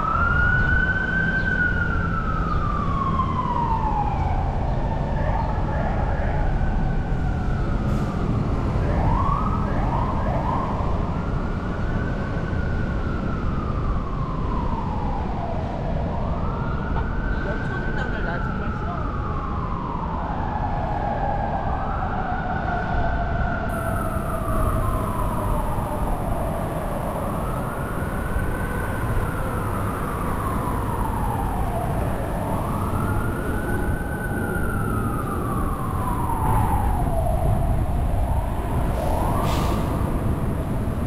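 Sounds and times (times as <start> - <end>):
emergency siren wailing: 0.0 - 41.0
street noise rumble: 0.0 - 41.0.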